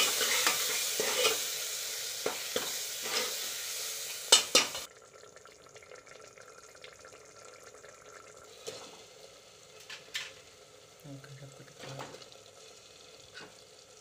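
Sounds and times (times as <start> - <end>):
gravy sizzling faintly: 0.0 - 14.0.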